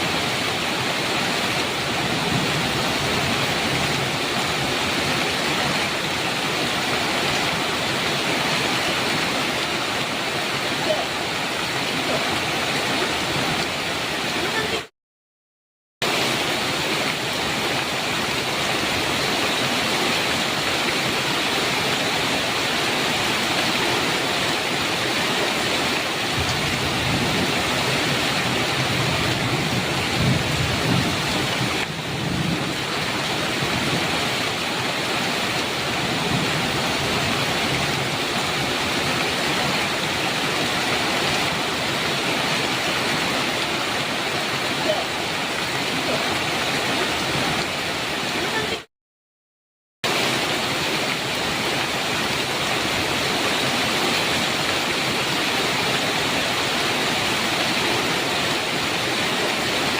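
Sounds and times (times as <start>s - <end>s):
heavy rain pouring: 0.0s - 14.9s, 16.0s - 48.9s, 50.0s - 59.9s.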